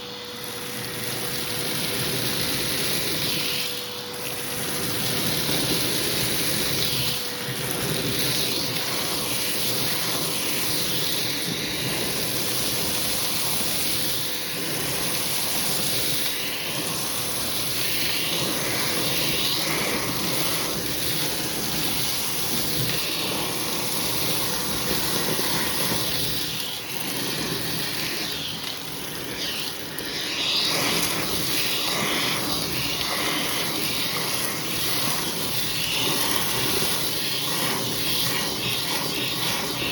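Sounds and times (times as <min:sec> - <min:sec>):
faint motor whine: 0:00.0 - 0:39.9
vacuum cleaner suction: 0:00.0 - 0:39.9.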